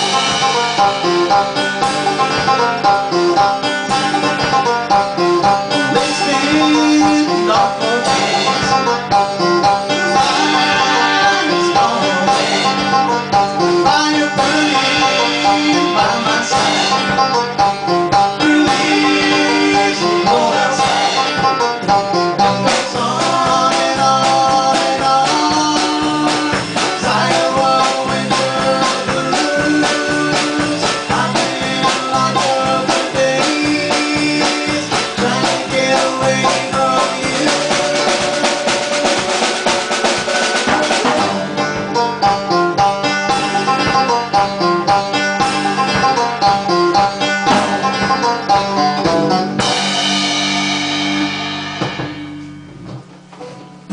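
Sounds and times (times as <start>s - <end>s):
guitars strummed and picked: 0.0s - 53.9s.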